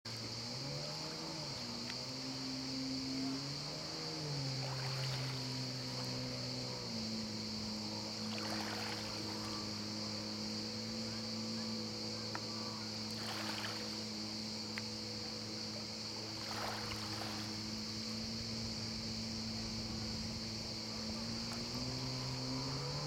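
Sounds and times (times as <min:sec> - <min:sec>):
jet ski engine running: 0:00.1 - 0:23.0.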